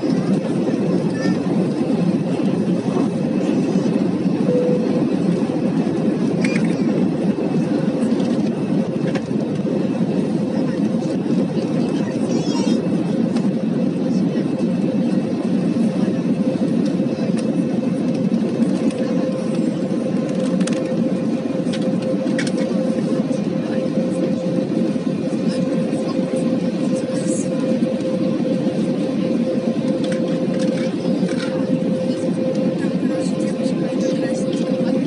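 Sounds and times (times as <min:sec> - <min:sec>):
constant hum: 0:00.0 - 0:35.0
jet engine roar inside cabin: 0:00.0 - 0:35.0.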